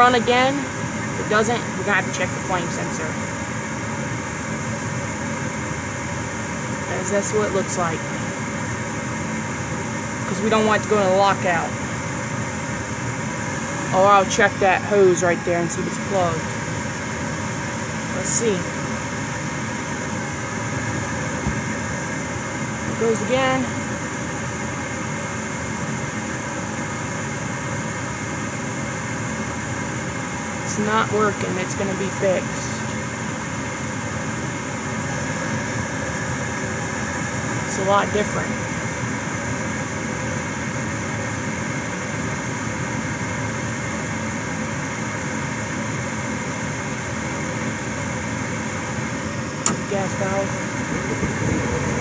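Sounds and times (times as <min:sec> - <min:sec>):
furnace fan humming: 0:00.0 - 0:52.0.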